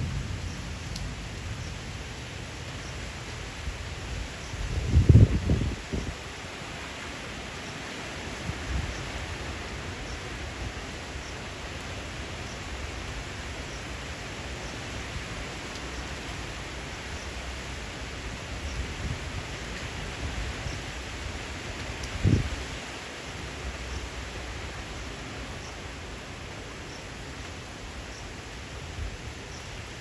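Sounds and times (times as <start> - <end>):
rain: 0.0 - 30.0
wind: 0.0 - 30.0.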